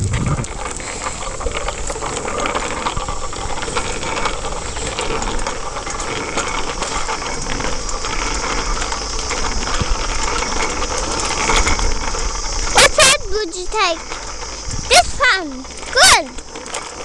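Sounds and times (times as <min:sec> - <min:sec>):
bicycle riding rushing hiss: 0:00.0 - 0:17.0
bike rattles and clicks: 0:00.0 - 0:17.0.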